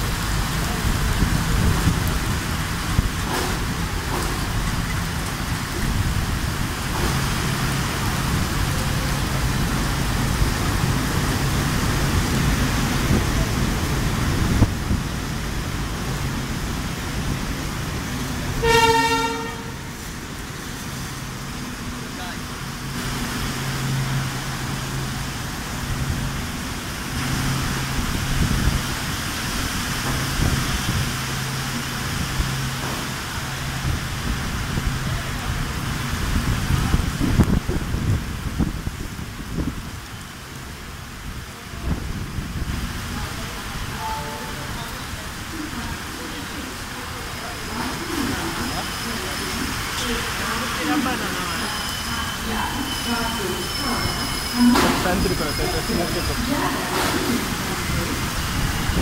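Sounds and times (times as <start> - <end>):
diesel locomotive hum: 0.0 - 59.0
heavy rain pouring: 0.0 - 59.0
train wheels rumbling on rail: 0.0 - 59.0.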